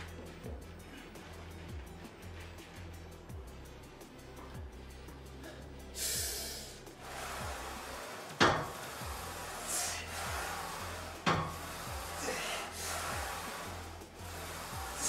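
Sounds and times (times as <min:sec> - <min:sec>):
background music with low beat: 0:00.0 - 0:15.0.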